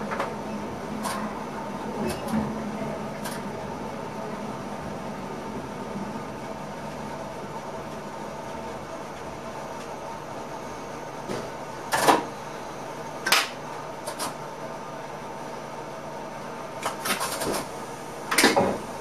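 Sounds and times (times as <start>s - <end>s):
train cab hum: 0.0s - 19.0s.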